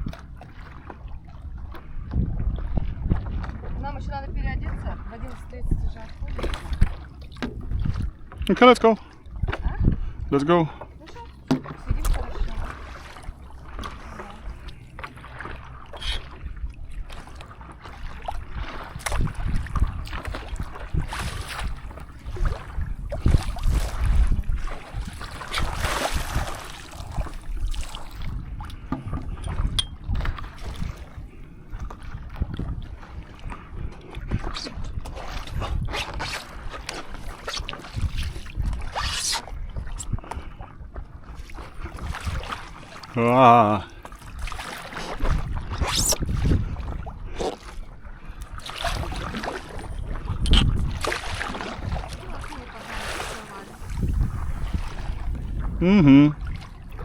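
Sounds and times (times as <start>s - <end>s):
wind buffeting microphone: 0.0s - 8.5s, 9.2s - 43.0s, 44.2s - 57.0s
paddle strokes splashing in water: 0.0s - 10.0s, 10.7s - 55.8s.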